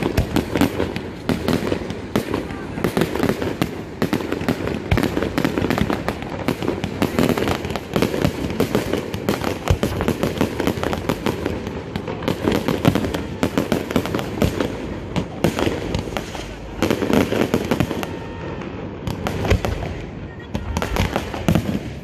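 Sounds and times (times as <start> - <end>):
fireworks popping and banging: 0.0 - 22.0.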